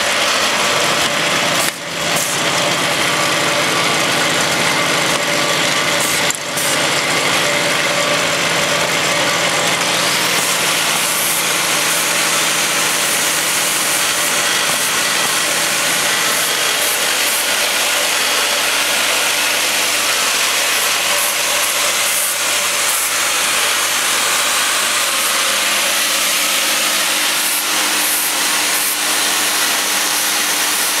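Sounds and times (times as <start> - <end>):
capping machine whirr and rattle: 0.0 - 31.0.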